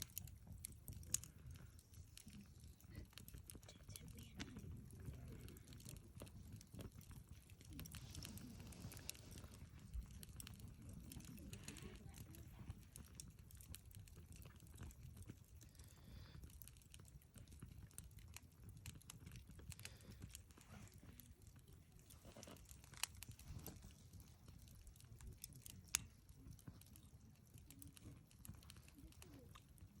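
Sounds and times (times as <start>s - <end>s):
low rumble of burning: 0.0s - 30.0s
sharp snaps of fire: 0.0s - 30.0s
wood fire crackling: 0.0s - 30.0s.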